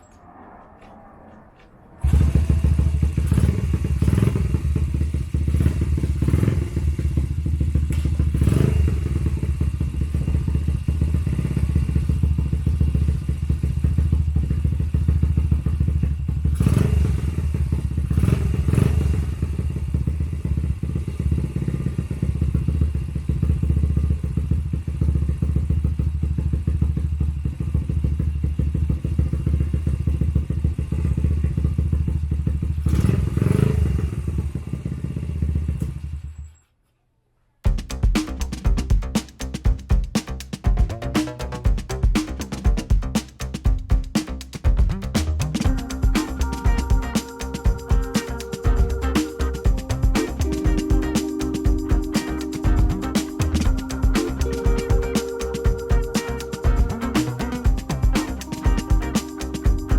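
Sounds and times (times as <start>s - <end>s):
small engine idling: 2.0s - 36.6s, 37.7s - 59.9s.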